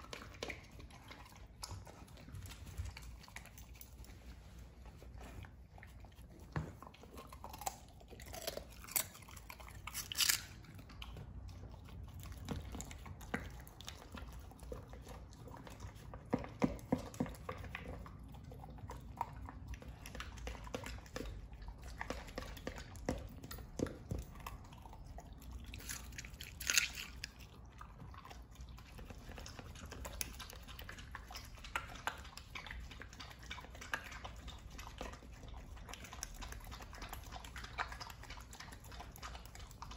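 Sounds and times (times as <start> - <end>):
dog crunching vegetables: 0.0 - 39.9.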